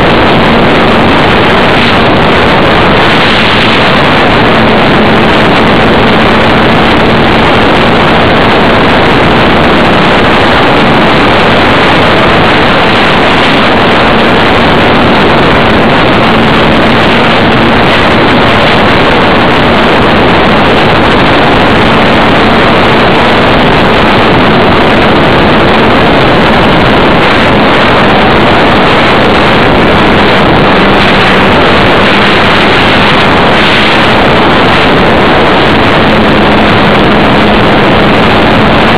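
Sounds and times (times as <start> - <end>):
model plane motor and propeller buzz: 0.0 - 38.9
rushing wind: 0.0 - 38.9.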